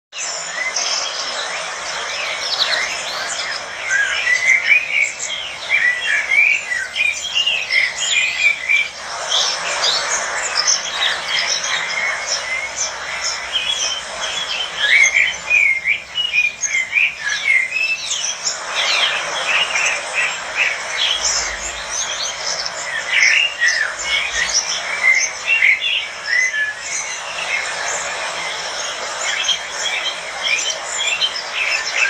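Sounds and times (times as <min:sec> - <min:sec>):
lovebirds chirping: 0:00.7 - 0:32.0.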